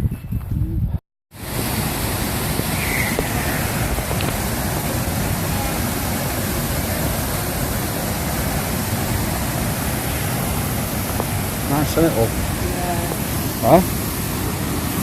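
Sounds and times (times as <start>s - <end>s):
waterfall rushing: 1.4s - 15.0s.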